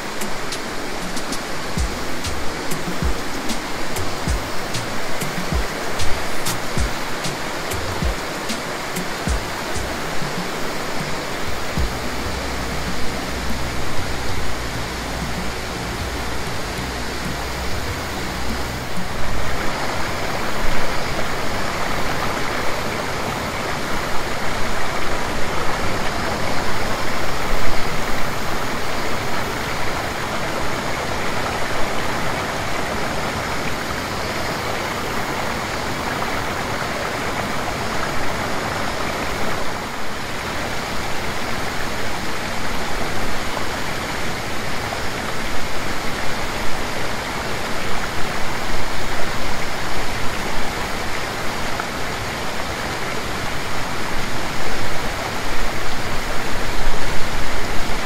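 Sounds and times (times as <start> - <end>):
waterfall and stream rushing: 0.0 - 58.0.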